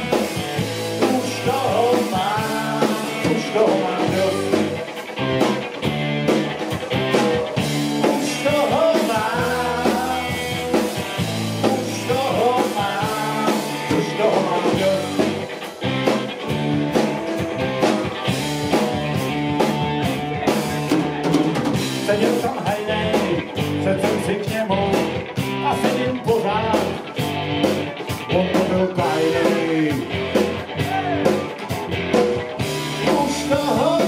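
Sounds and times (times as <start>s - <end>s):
lead line over band: 0.0s - 34.0s
live rock band playing: 0.0s - 34.0s.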